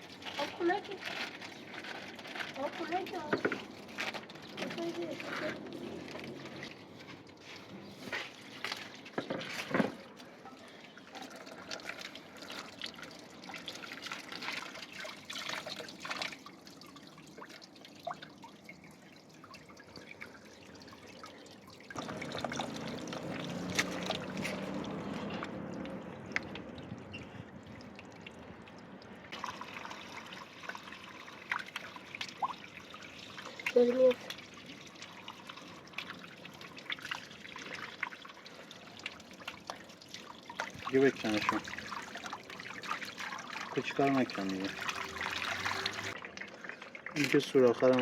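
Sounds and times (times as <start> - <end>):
water trickling and dripping: 0.0 - 48.0.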